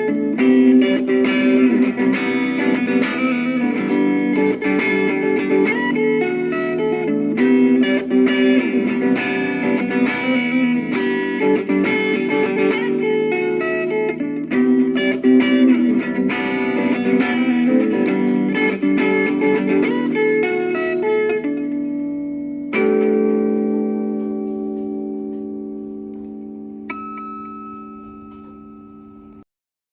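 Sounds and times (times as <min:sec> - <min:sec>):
plucked guitar music: 0:00.0 - 0:29.4.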